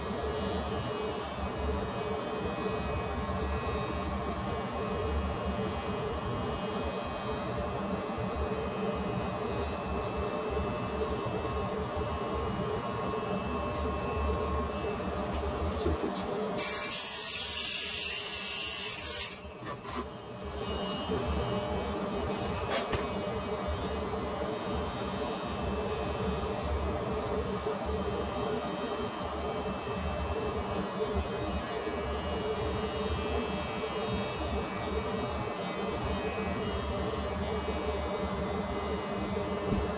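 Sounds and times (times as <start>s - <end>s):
electric hair clippers humming: 0.0s - 39.9s.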